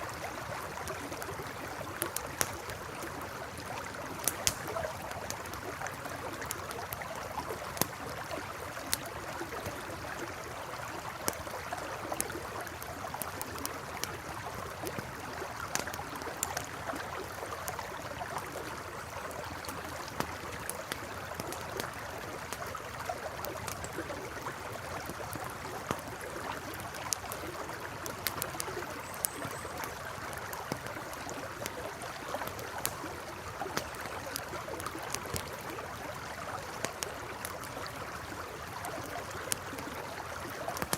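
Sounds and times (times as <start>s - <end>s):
campfire crackling: 0.0s - 40.9s
river flowing: 0.0s - 40.9s.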